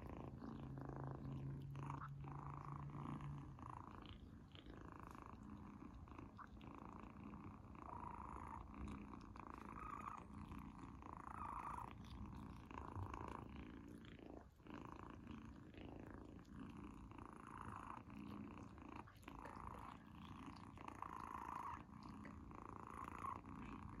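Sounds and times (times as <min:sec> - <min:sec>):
kitten purring: 0:00.0 - 0:24.0.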